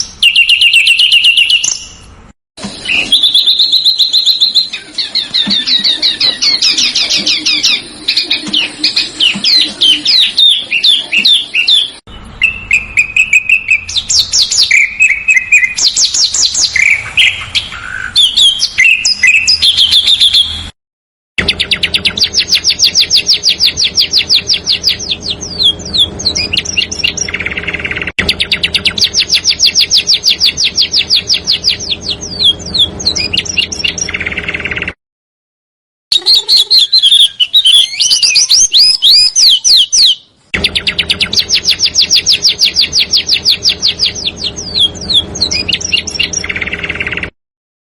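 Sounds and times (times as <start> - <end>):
songbirds trilling and chirping: 0.0 - 20.7, 21.4 - 35.0, 36.2 - 47.3.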